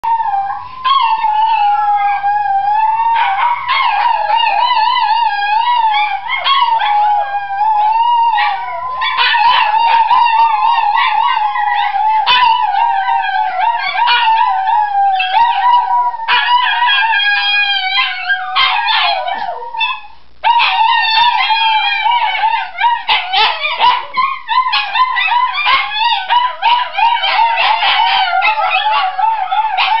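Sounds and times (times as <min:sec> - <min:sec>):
dogs howling in chorus: 0:00.0 - 0:30.0.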